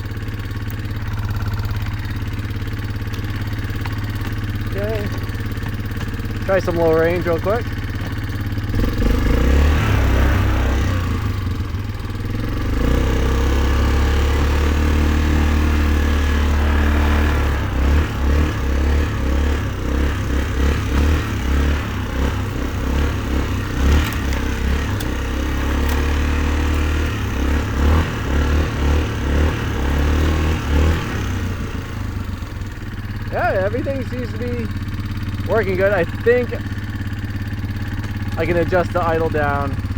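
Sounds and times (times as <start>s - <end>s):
atv engine under load: 0.0s - 39.9s.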